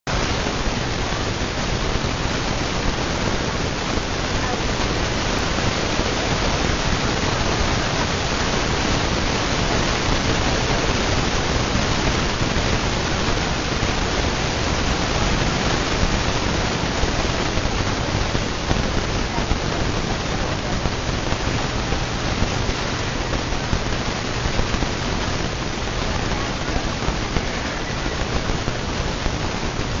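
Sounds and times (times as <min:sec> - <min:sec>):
ceiling fan running: 0:00.1 - 0:30.0.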